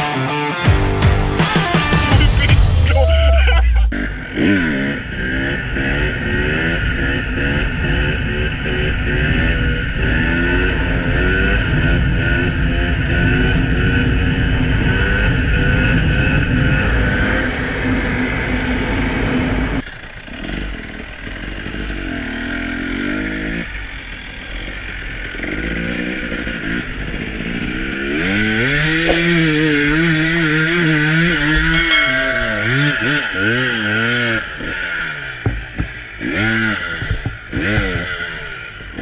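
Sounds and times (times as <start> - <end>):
two-stroke motorcycle engine revving: 3.9 - 39.0.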